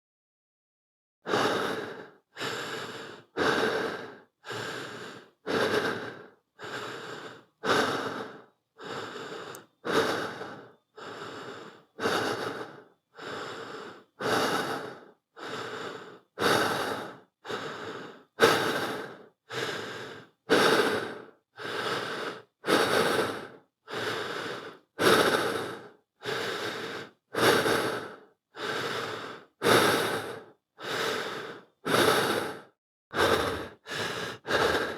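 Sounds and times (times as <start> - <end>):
slow human breathing: 1.3 - 34.9.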